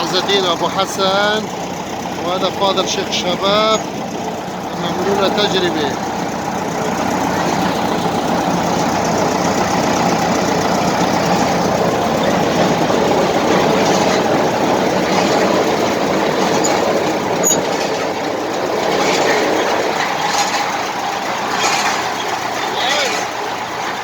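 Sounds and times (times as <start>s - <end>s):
drilling rig engine and machinery: 0.0s - 24.0s.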